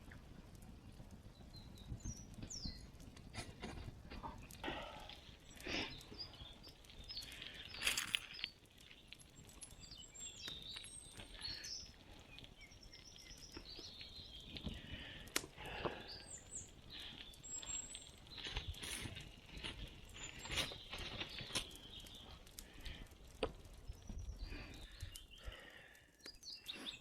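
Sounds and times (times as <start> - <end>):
close rustles and crackles: 0.0 - 27.0
small birds chirping: 0.0 - 27.0.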